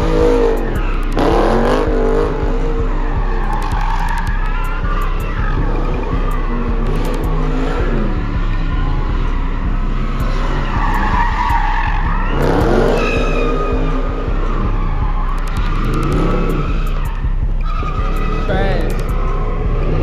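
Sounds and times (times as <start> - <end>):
car engine revving: 0.0 - 20.0
tyres squealing on pavement: 0.0 - 20.0.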